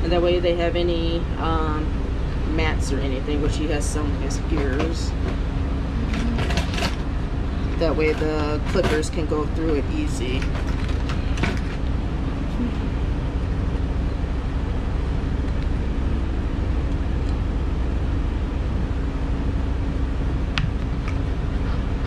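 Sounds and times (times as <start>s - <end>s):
machine drone with hum: 0.0s - 22.0s.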